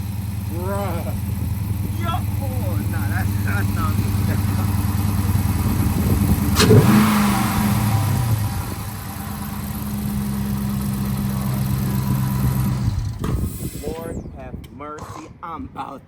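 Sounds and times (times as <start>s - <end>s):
car engine idling: 0.0s - 14.2s
engine throttle blip: 0.0s - 14.7s.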